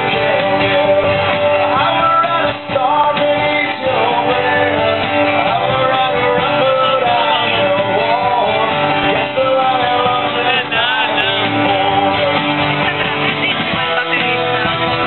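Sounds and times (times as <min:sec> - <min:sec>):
acoustic guitars strumming: 0:00.0 - 0:15.0
bass line: 0:00.0 - 0:15.0
person singing: 0:00.0 - 0:15.0.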